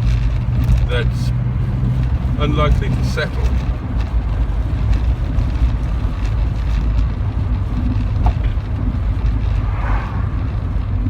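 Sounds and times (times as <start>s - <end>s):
misfiring car engine: 0.0s - 11.0s
road noise: 0.0s - 11.0s.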